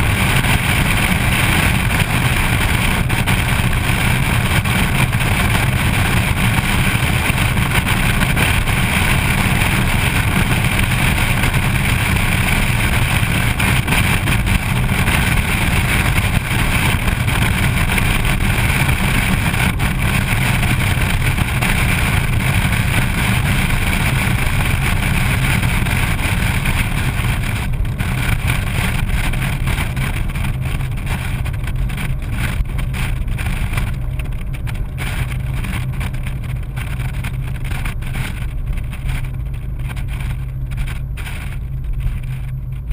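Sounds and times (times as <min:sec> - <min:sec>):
car driving drone: 0:00.0 - 0:42.9.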